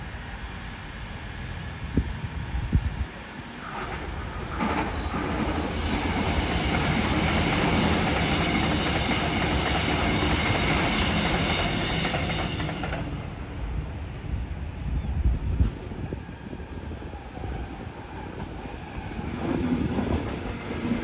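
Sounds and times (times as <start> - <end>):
train wheels running on rails: 0.0 - 21.0.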